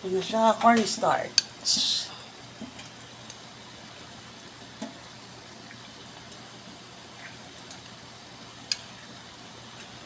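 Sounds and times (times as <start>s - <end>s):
sauce simmering in a pot: 0.0s - 10.0s.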